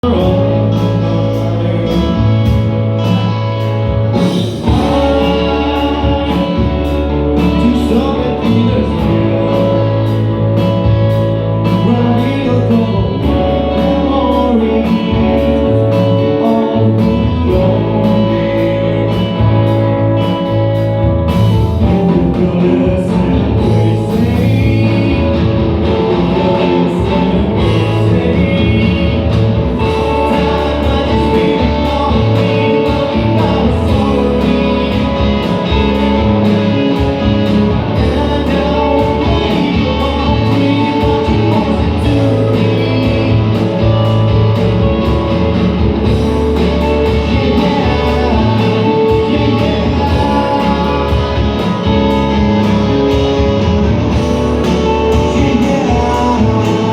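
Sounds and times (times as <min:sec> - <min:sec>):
person singing: 0:00.0 - 0:56.9
rock band playing: 0:00.0 - 0:56.9.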